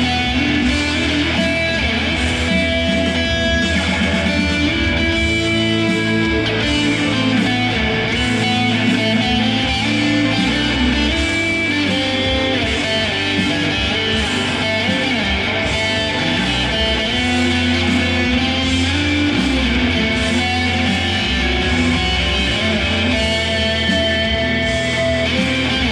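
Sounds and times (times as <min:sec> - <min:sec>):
electric guitar notes: 0:00.0 - 0:25.9.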